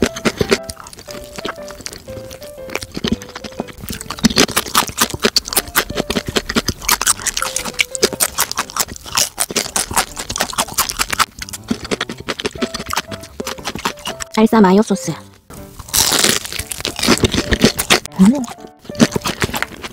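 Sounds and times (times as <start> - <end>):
crunching and chewing fried chicken: 0.0 - 14.4, 15.5 - 19.9.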